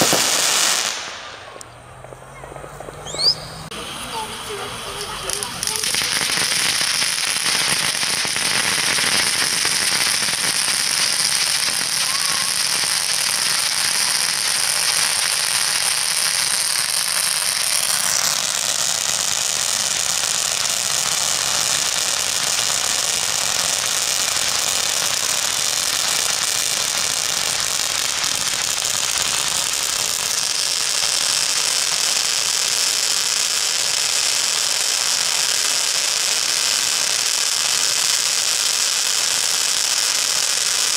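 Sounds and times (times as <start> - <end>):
firework fountain crackling hiss: 0.0 - 40.9.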